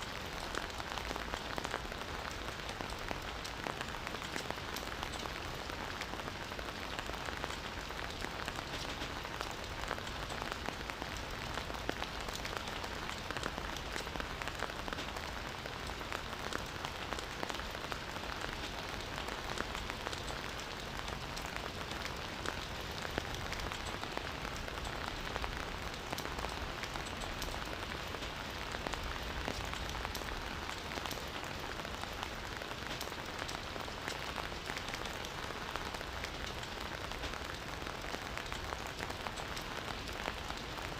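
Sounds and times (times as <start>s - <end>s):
rain falling on foliage: 0.0s - 40.9s.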